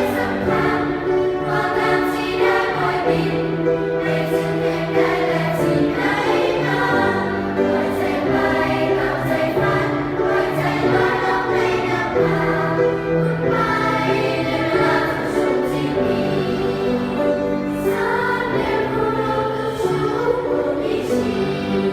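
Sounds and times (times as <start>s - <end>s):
choir singing: 0.0s - 21.9s.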